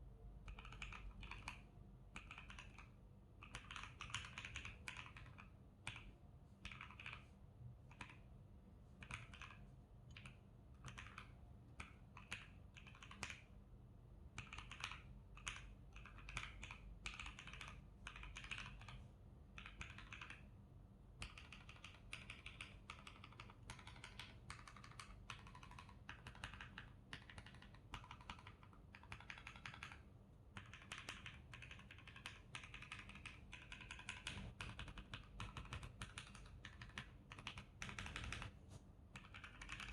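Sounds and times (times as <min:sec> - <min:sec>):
mechanical keyboard typing: 0:00.4 - 0:08.2, 0:09.0 - 0:13.4, 0:14.3 - 0:19.0, 0:19.6 - 0:20.4, 0:21.2 - 0:38.5, 0:39.1 - 0:39.9.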